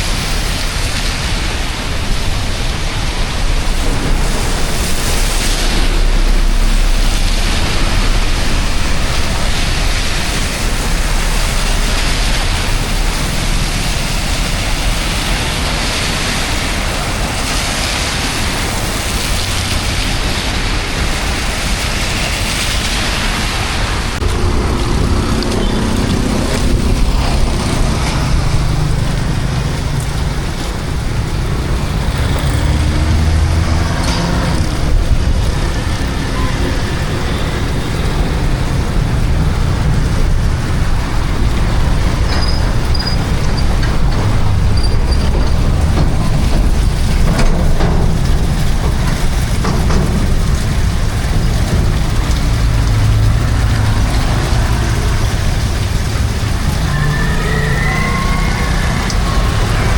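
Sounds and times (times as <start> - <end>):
motor vehicle engine hum: 0.0 - 59.9
water rushing: 0.0 - 59.9.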